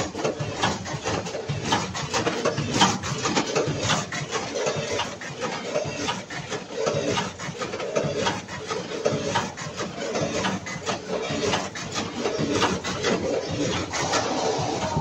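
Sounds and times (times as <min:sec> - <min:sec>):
packing machine clattering: 0:00.0 - 0:15.0.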